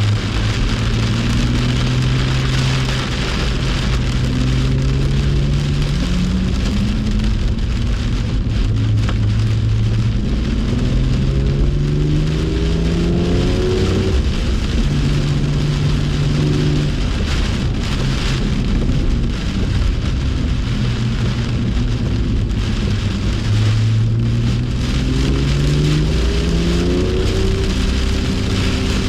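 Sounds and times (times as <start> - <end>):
car engine accelerating: 0.0 - 29.0
heavy rain and tyre spray: 0.0 - 29.0.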